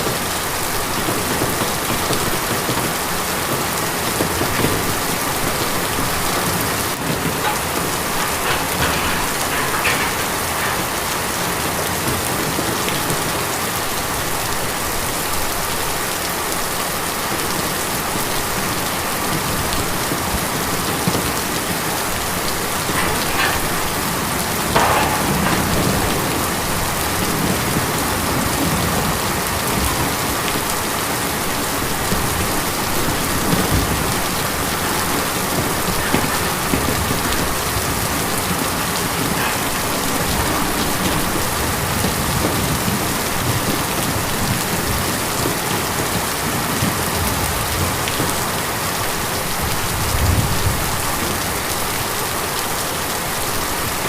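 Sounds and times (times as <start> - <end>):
rain drumming on a tin roof: 0.0 - 54.0.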